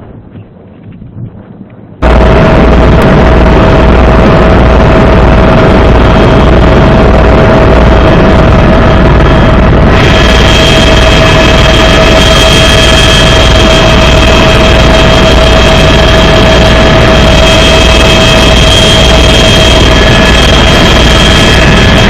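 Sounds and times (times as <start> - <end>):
helicopter turbine and rotor: 2.0 - 22.0
high-pitched whine: 2.0 - 22.0.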